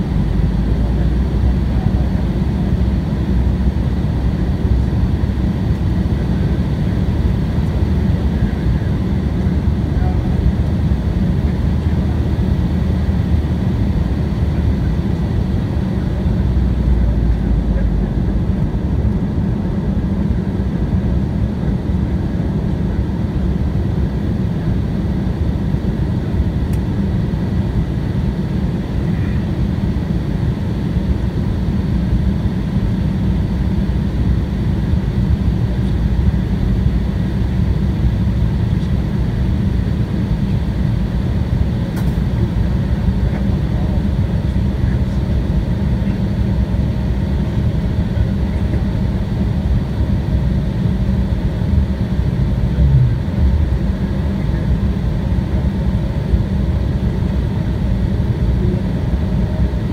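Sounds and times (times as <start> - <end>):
airliner cabin rumble: 0.0 - 59.9
faint steady whine: 0.0 - 59.9.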